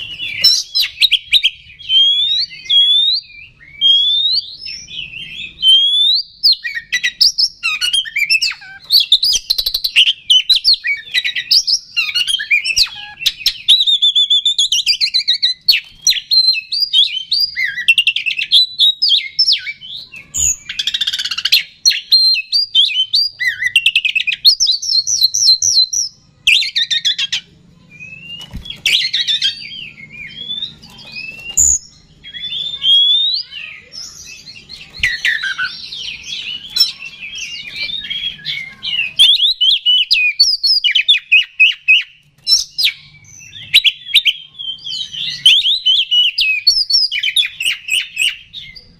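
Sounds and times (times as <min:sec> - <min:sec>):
bird singing whistles and trills: 0:00.0 - 0:48.9.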